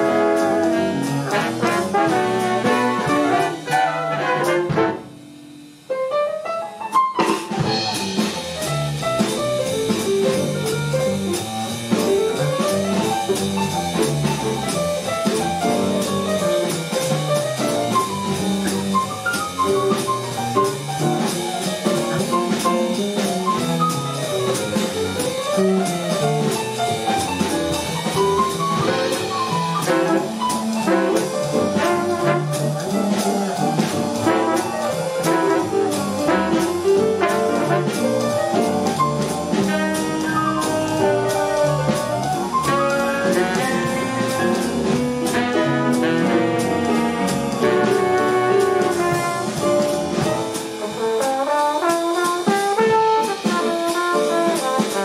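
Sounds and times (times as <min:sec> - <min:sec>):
jazz band playing: 0:00.0 - 0:55.0.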